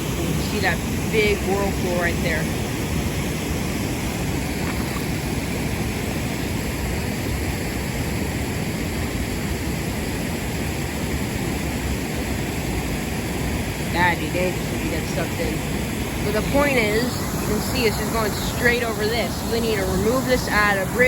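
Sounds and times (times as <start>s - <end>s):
floodwater rushing: 0.0s - 21.0s
whirlpool churning: 0.0s - 21.0s.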